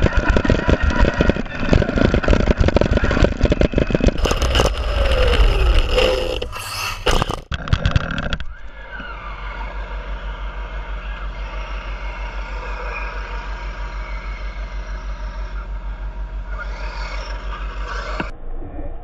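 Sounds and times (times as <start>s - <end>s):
radio-controlled cars driving: 0.0s - 18.3s.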